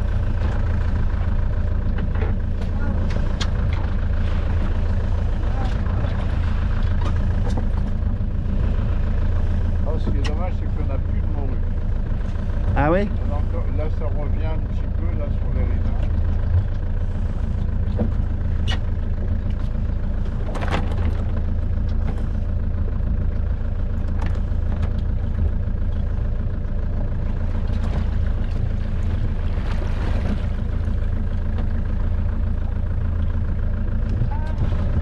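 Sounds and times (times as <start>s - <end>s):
motor boat engine droning: 0.0s - 35.0s.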